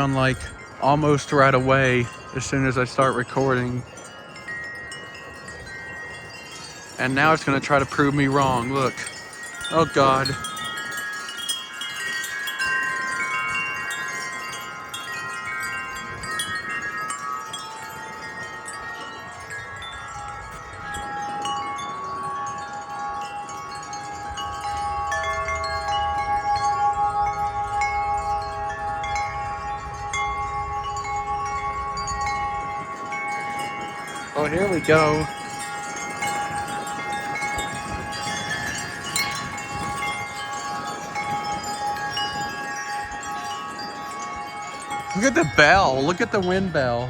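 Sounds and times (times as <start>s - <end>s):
wind chimes ringing: 0.0s - 47.0s
wind rumble on microphone: 0.0s - 47.0s.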